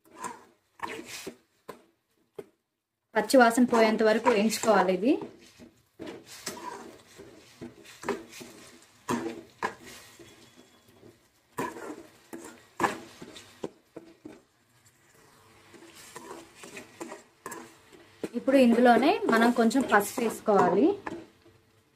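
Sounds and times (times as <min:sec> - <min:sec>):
spoon scraping metal pan: 0:00.0 - 0:01.9, 0:03.2 - 0:21.4.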